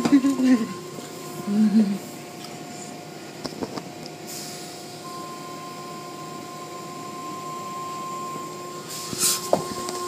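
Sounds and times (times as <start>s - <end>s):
car wash machinery running: 0.0s - 10.0s
steady whine: 0.0s - 10.0s.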